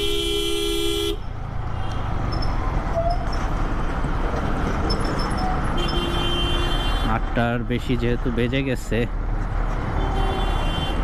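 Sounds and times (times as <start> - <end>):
motorcycle riding in traffic: 0.0 - 11.0.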